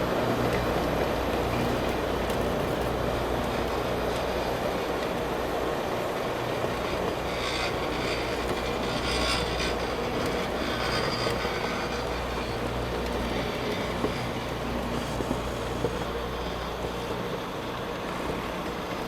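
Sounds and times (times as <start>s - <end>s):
diesel engine drone: 0.0s - 19.0s
grinding wheels hissing on rail: 0.0s - 19.0s.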